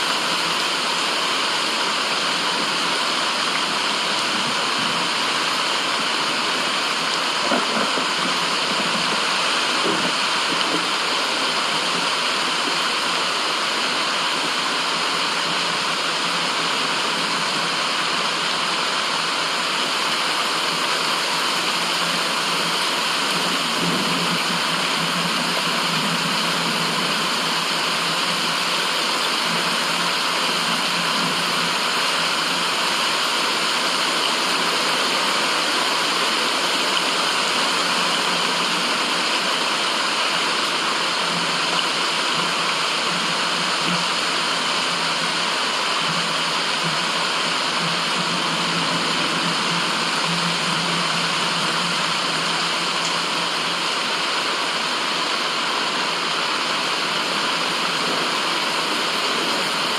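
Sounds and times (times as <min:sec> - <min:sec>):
rushing white noise: 0:00.0 - 0:59.9.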